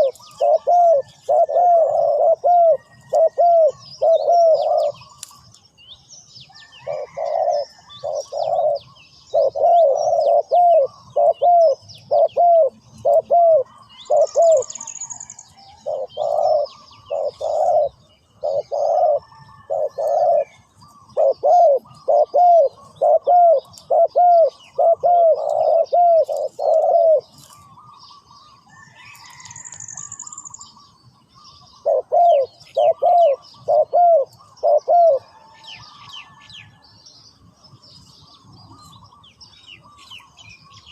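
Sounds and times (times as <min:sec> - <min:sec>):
dove cooing: 0:00.0 - 0:05.2, 0:06.8 - 0:30.4, 0:31.6 - 0:36.4
small birds chirping: 0:00.0 - 0:40.9.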